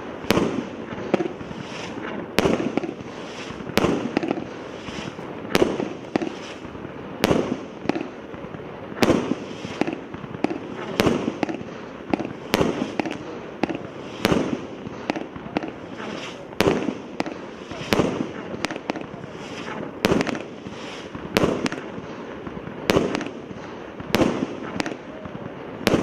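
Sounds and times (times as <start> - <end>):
firework pops and crackle: 0.0 - 26.0
fireworks banging: 0.0 - 26.0.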